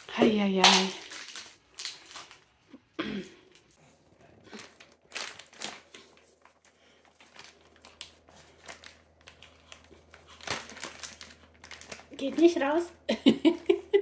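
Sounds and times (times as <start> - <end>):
plastic bag crinkling: 0.0 - 2.9, 3.5 - 13.0.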